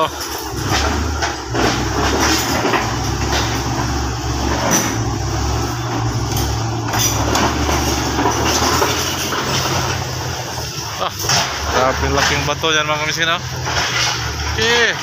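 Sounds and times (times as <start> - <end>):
bulldozer diesel engine running: 0.0 - 15.0
steel tracks clanking on rock: 0.0 - 15.0.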